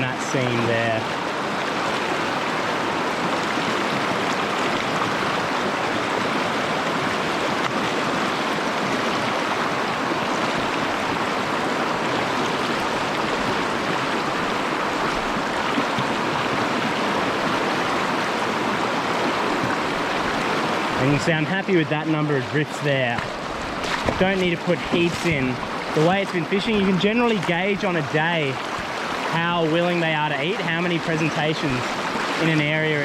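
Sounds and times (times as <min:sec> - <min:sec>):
mountain stream rushing over rocks: 0:00.0 - 0:33.0.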